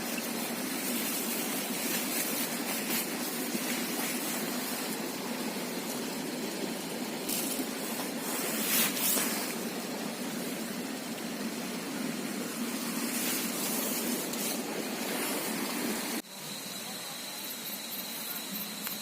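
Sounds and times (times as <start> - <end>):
river flowing: 0.0 - 16.5.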